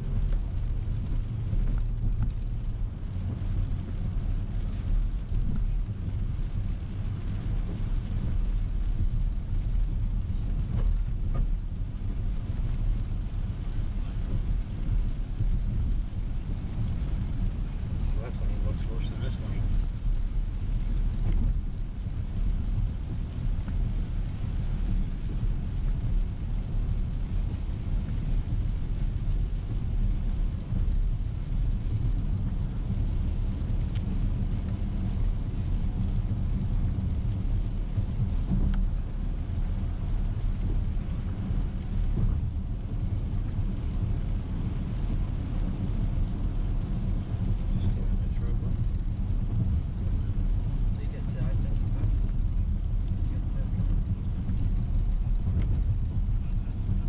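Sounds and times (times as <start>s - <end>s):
car interior road rumble: 0.0s - 57.0s
faint tyre hiss on wet road: 0.0s - 57.0s.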